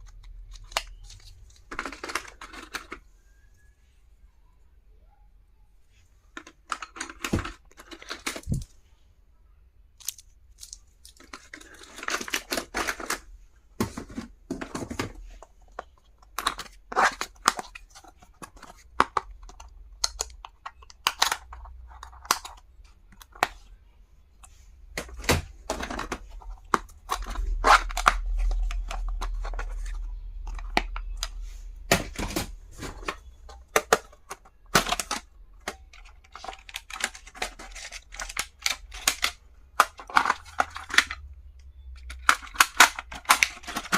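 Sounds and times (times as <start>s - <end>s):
plastic items clicking: 0.0s - 3.1s, 6.3s - 8.8s, 10.0s - 23.7s, 24.4s - 43.9s.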